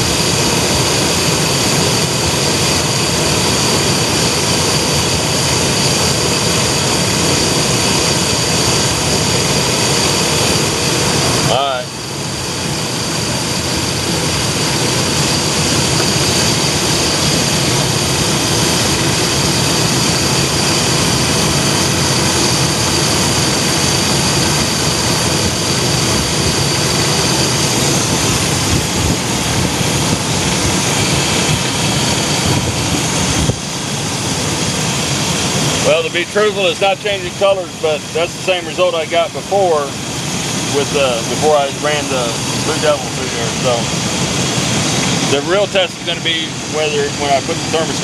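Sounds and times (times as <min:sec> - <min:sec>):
steady high whine: 0:00.0 - 0:48.0.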